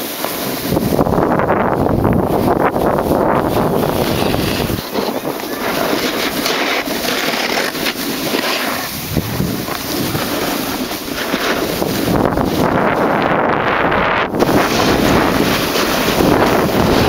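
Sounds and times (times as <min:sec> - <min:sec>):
skis sliding on snow: 0:00.0 - 0:17.0
wind buffeting microphone: 0:00.2 - 0:17.0.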